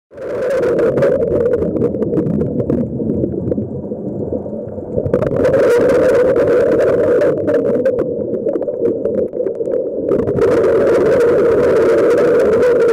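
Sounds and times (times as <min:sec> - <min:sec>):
muffled underwater rush: 0:00.1 - 0:12.9
underwater clicks and crackles: 0:00.1 - 0:12.9.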